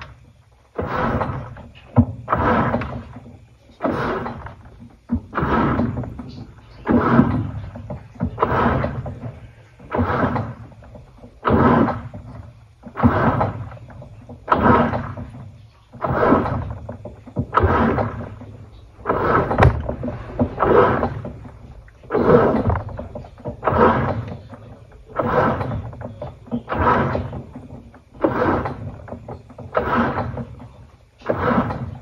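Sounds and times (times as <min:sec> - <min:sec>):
washing machine drum turning: 0:00.0 - 0:32.0.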